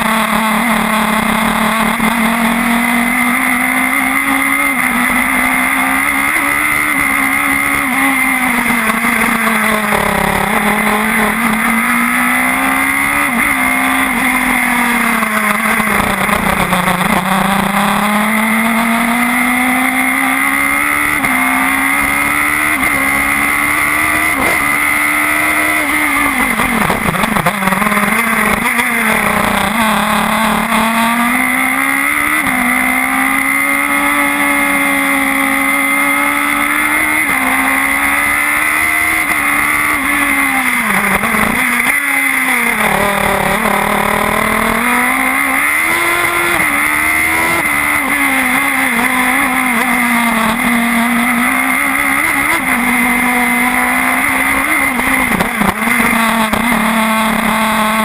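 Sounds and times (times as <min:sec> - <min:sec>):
engine blips on downshift: 0:00.0 - 0:58.0
race car engine at high revs: 0:00.0 - 0:58.0.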